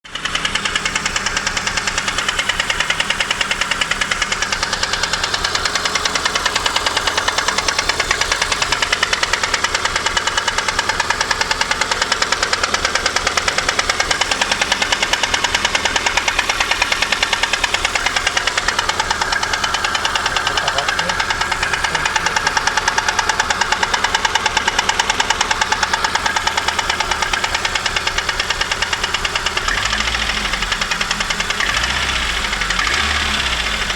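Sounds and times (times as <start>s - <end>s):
car engine running: 0.0s - 33.9s
ringing engine knock: 0.1s - 33.9s.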